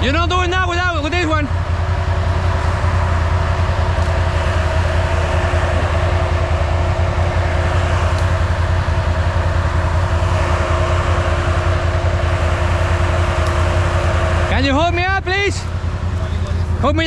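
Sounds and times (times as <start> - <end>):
atv engine humming: 0.0 - 17.0.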